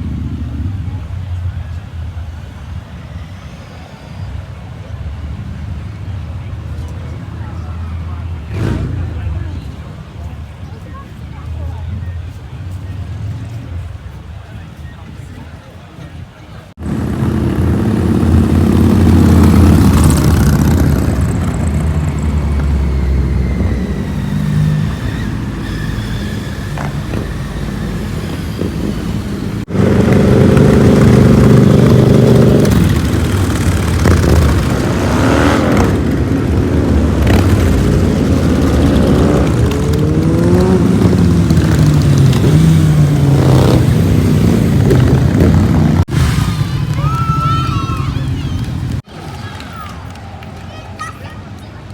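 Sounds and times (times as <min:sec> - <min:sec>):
motorcycle engines revving: 0:00.0 - 0:50.2.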